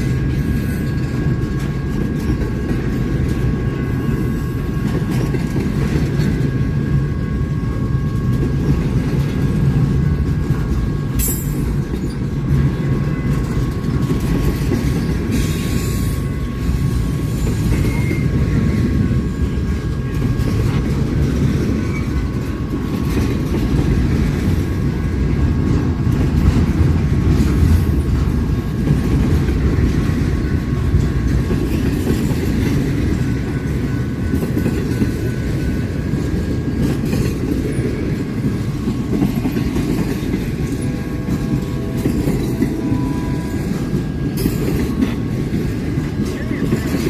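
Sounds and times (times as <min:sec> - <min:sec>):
railroad cars rumbling past: 0:00.0 - 0:47.0.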